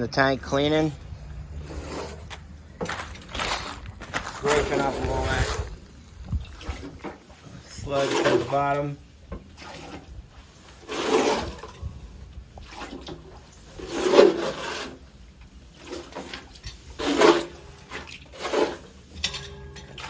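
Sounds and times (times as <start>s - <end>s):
sludge scraping in metal tank: 0.4s - 20.0s.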